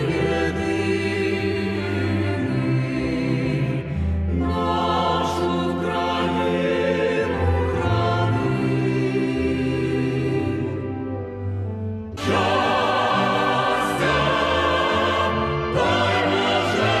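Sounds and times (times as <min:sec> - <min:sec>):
choir singing long chords: 0:00.0 - 0:17.0.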